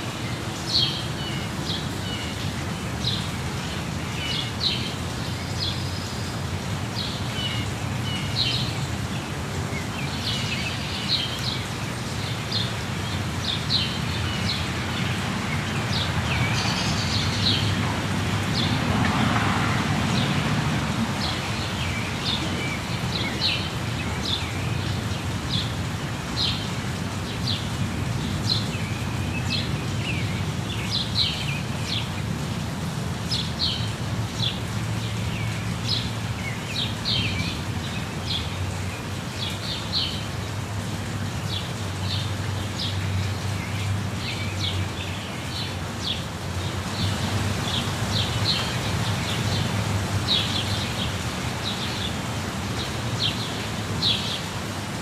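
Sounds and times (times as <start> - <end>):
small birds chirping: 0.0 - 19.0, 19.7 - 32.2, 41.4 - 55.0
waterfall rushing: 0.0 - 55.0.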